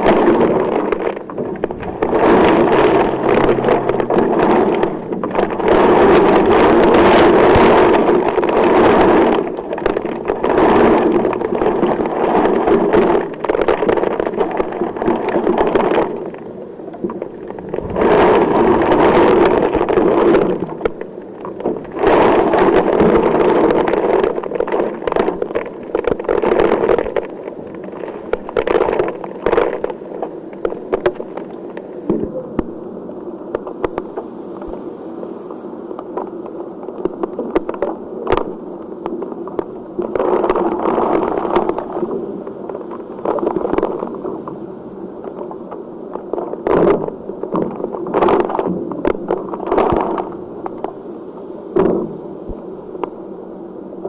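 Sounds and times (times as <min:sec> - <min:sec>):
heavy rain pouring: 0:00.0 - 0:51.2.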